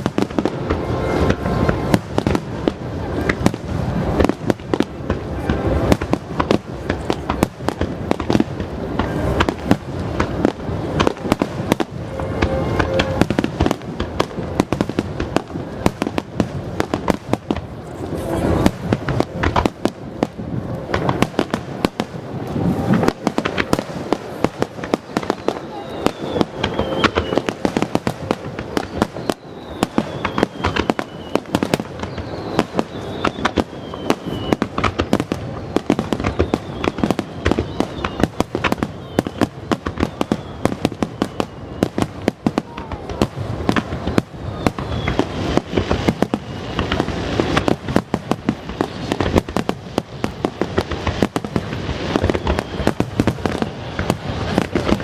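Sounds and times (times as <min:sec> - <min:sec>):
fireworks bursting and crackling: 0:00.0 - 0:55.0
fireworks whistles falling in pitch: 0:00.0 - 0:55.0.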